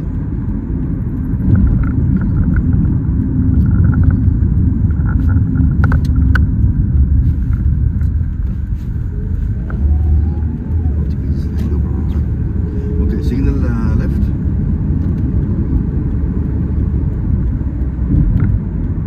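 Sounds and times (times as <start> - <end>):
engine and road noise in car: 0.0 - 19.0
sharp clicks: 0.0 - 19.0.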